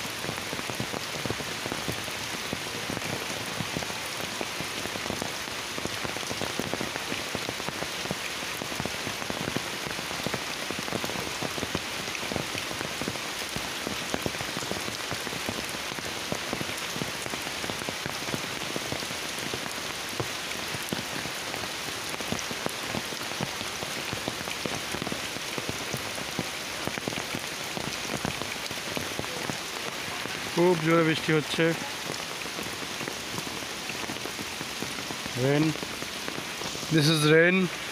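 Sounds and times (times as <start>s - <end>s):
rain on an umbrella: 0.0s - 37.9s
rain on foliage: 0.0s - 37.9s.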